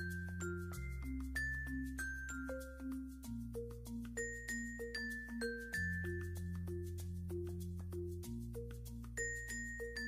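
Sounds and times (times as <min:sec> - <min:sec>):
bell-like mallet tune: 0:00.0 - 0:10.0.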